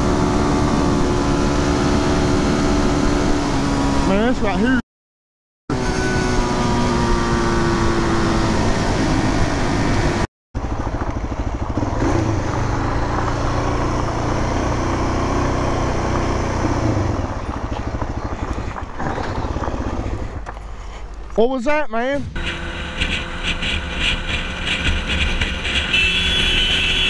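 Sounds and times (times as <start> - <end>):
motorcycle engine: 0.0 - 4.8, 5.7 - 21.0, 22.2 - 27.0.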